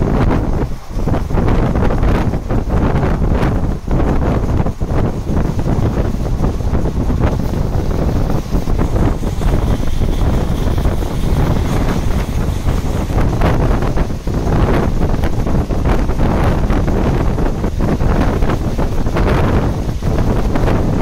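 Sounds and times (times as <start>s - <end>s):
train running rumble: 0.0s - 21.0s
wind buffeting microphone: 0.0s - 21.0s.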